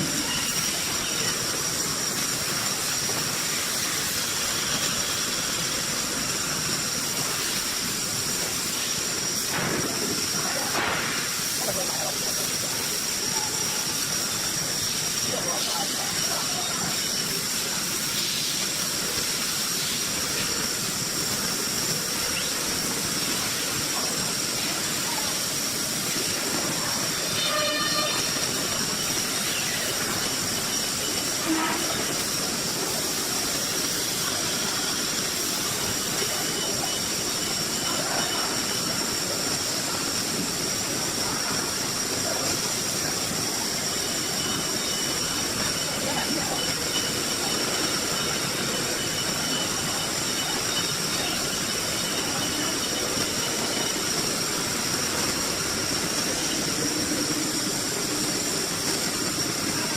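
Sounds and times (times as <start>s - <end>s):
router spindle high-pitched whine: 0.0s - 9.4s, 11.8s - 59.9s
machine noise hiss: 0.0s - 59.9s.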